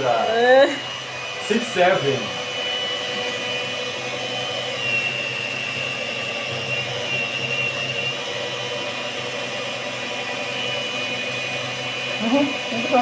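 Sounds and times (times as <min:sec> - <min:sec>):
electric mixer motor running: 0:00.0 - 0:13.0.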